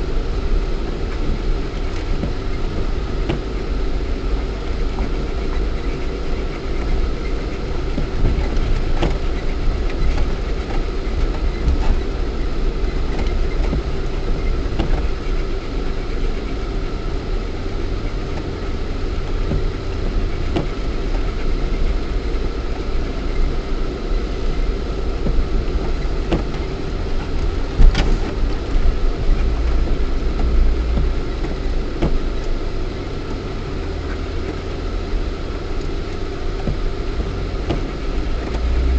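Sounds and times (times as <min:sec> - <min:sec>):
car engine running off-road: 0:00.0 - 0:38.9.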